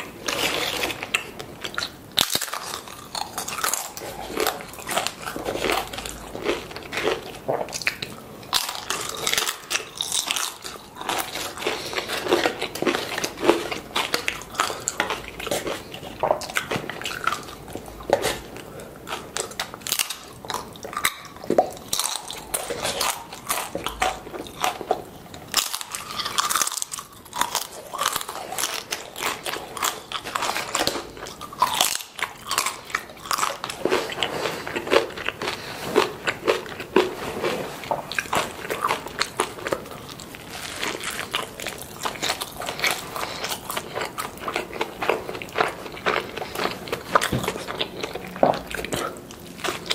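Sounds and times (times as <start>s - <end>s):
crisp chip crunches: 0.0s - 18.5s, 19.1s - 49.9s
wet chewing: 0.0s - 49.9s.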